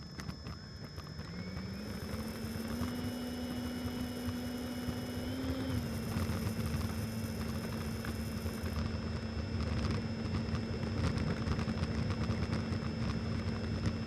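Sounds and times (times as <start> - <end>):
electric ducted fan whine: 0.0 - 14.0.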